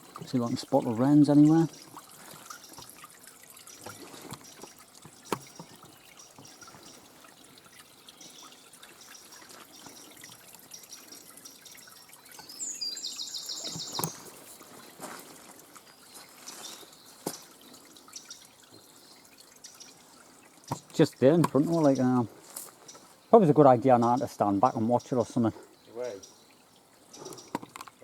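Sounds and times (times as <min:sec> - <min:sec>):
distant birdsong: 0:00.0 - 0:28.0
faint drips and clicks: 0:00.0 - 0:28.0.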